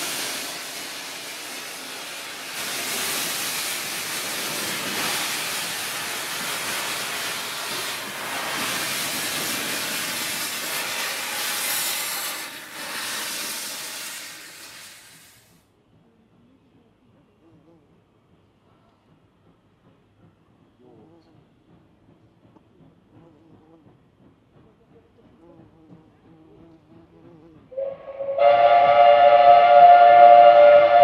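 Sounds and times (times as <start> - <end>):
steam locomotive hissing: 0.0 - 15.6, 18.7 - 31.0.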